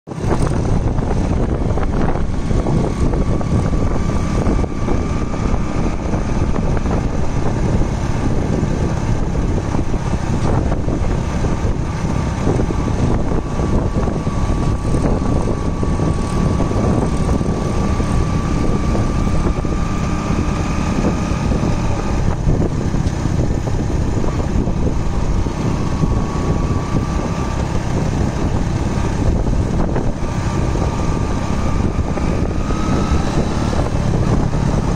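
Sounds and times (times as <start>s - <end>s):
wind: 0.0s - 34.9s
vehicle low rumble: 0.1s - 34.9s.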